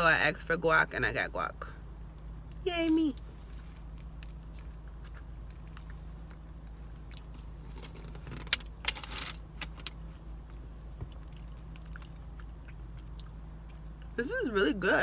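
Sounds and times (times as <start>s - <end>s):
low car cabin hum: 0.0s - 15.0s.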